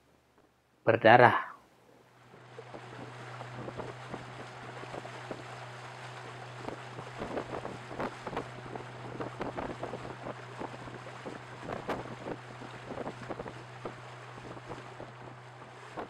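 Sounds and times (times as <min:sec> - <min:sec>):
motorboat engine hum: 0:01.8 - 0:16.0
water slapping against hull: 0:02.1 - 0:16.0
wind buffeting microphone: 0:02.3 - 0:16.0.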